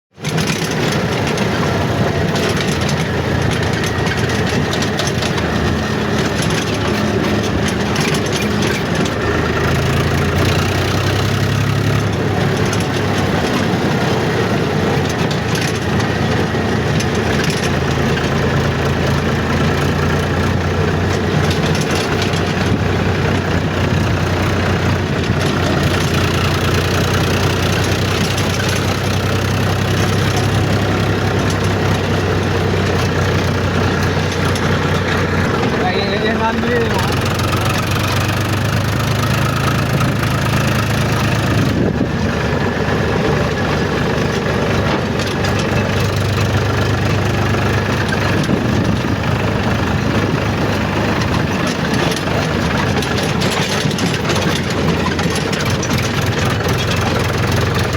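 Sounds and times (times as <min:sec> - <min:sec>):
tractor engine running: 0:00.1 - 0:57.9.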